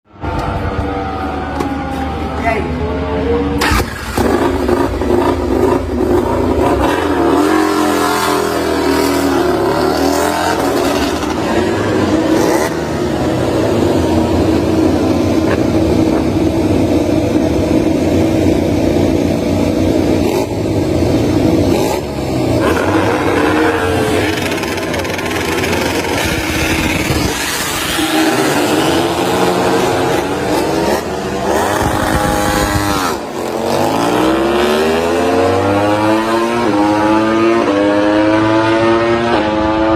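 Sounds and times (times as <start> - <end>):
racing motorcycle engines revving: 0.1 - 39.9.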